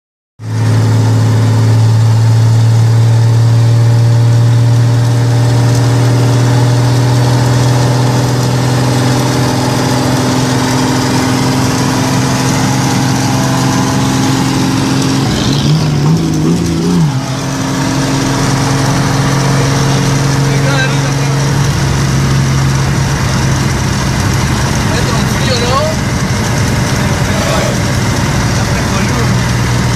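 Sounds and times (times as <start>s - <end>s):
car engine while driving: 0.4s - 29.9s.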